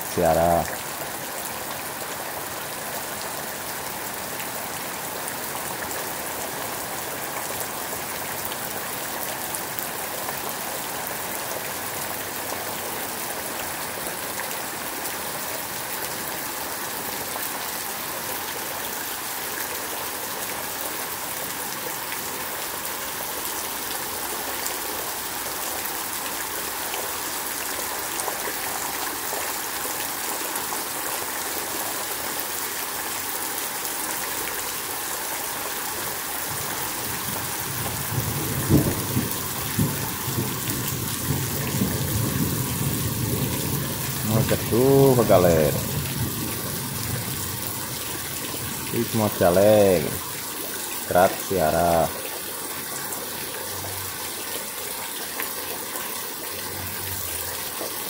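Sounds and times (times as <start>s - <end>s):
heavy rain on trees: 0.0s - 58.0s.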